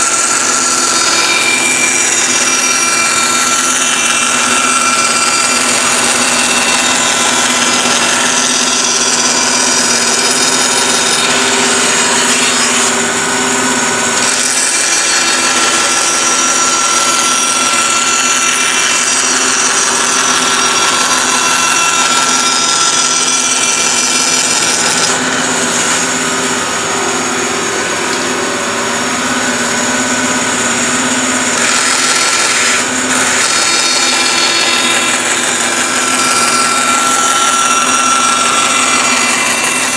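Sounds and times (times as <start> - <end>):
power tool cutting wood: 0.0 - 39.9.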